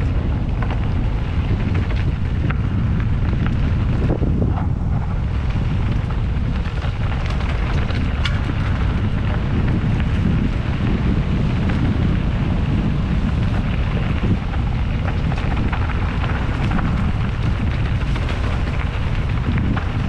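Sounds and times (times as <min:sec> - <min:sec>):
bike clicks and rattles: 0:00.0 - 0:20.0
wind rush: 0:00.0 - 0:20.0.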